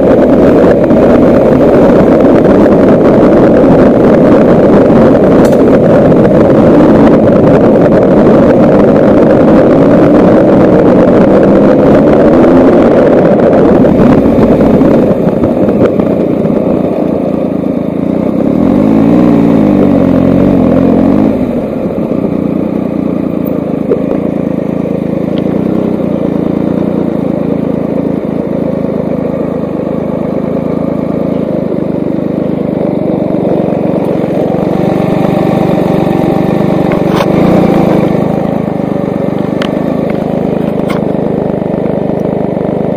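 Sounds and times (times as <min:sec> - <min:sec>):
wind noise: 0:00.0 - 0:27.1, 0:33.4 - 0:41.4
motorcycle engine idling: 0:00.0 - 0:42.9
motorcycle engine running: 0:00.0 - 0:42.9.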